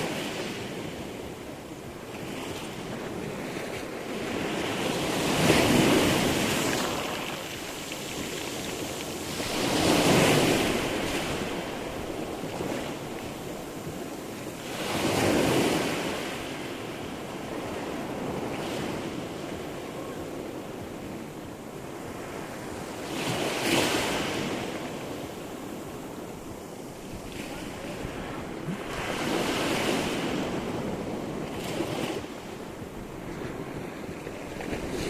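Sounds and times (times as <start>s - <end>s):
steady wash of water: 0.0s - 21.2s, 21.8s - 35.0s
waves breaking: 0.0s - 35.0s.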